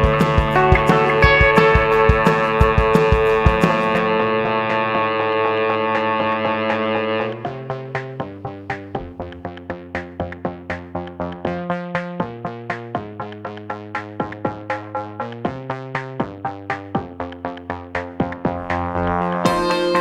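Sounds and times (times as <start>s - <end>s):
plucked notes over held chords: 0.0s - 20.0s.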